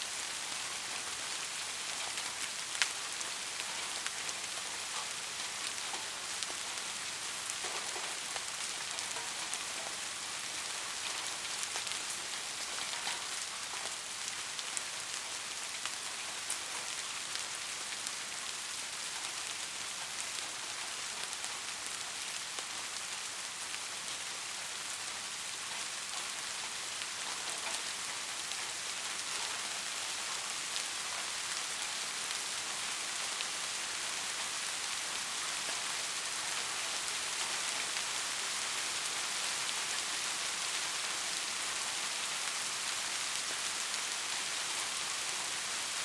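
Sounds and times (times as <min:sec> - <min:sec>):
rain falling on a surface: 0:00.0 - 0:46.0.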